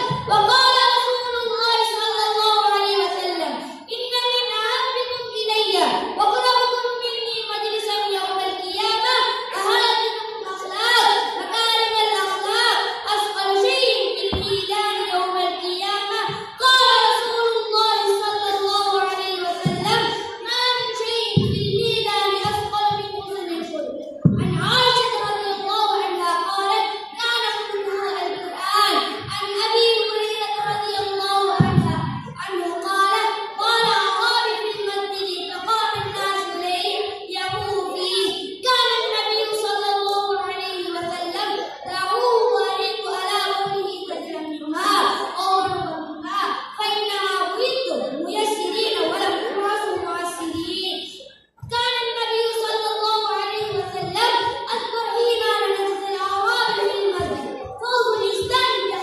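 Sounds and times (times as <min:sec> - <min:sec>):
boy singing into a microphone: 0:00.0 - 0:59.0.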